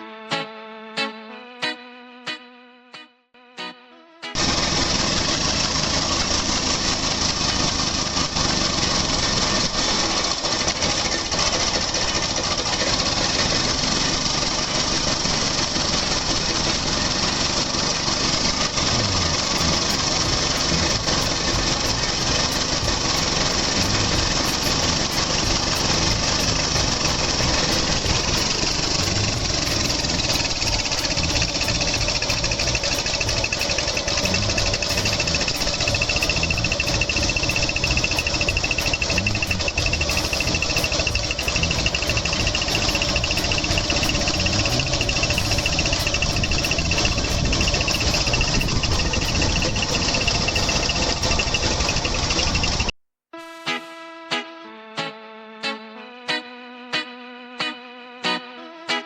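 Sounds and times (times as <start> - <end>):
two-stroke engine running: 4.4 - 52.9.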